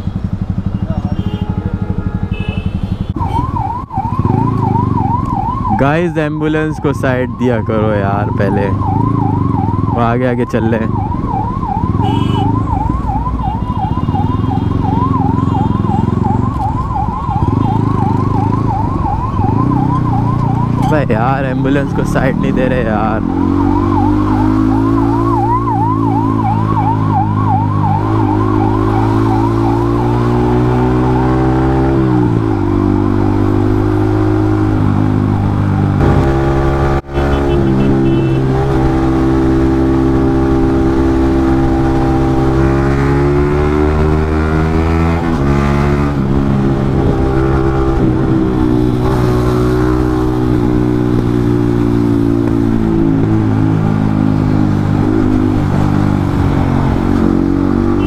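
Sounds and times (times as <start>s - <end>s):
motorcycle engine with loud exhaust: 0.0s - 58.0s
ambulance siren wailing: 3.1s - 58.0s.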